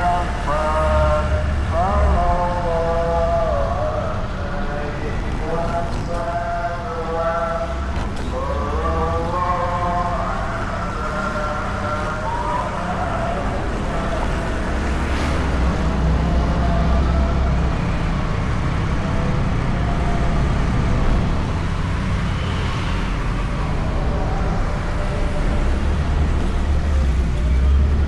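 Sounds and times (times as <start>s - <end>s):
road and wind noise: 0.0s - 28.0s.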